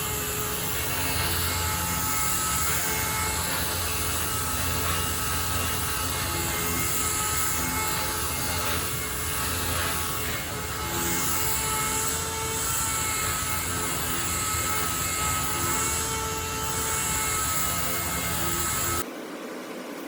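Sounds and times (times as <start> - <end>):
sander whining: 0.0 - 19.1.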